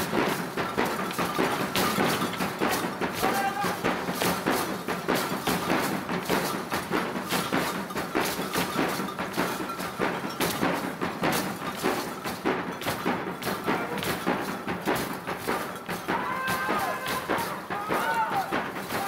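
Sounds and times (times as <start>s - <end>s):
rhythmic percussion strikes: 0.0s - 19.0s.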